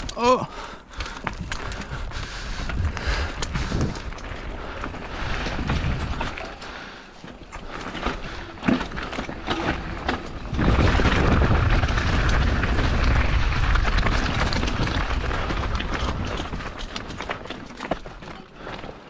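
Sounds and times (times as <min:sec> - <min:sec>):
bike tyres crunching over stones: 0:00.0 - 0:19.0
wind buffeting microphone: 0:01.0 - 0:07.0, 0:07.6 - 0:17.5.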